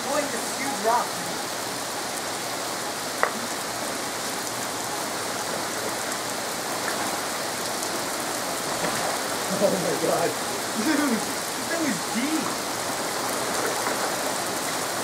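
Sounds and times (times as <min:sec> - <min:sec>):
rain splashing on flooded street: 0:00.0 - 0:15.0.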